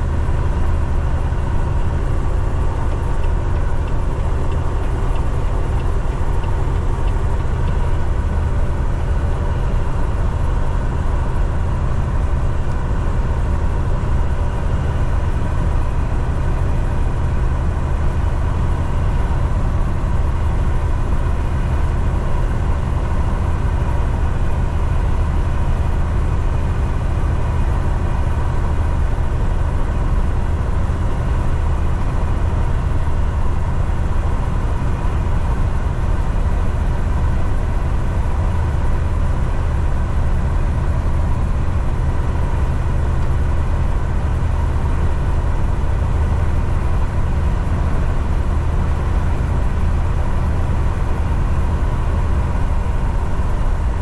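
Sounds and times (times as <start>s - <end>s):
diesel engine drone: 0.0s - 54.0s
road and tyre noise: 0.0s - 54.0s.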